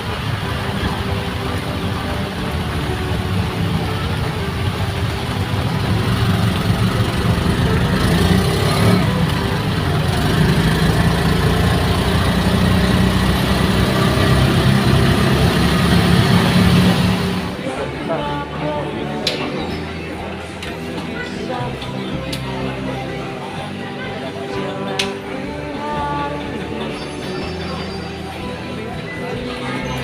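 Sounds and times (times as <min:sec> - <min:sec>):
minibus engine running: 0:00.0 - 0:30.0.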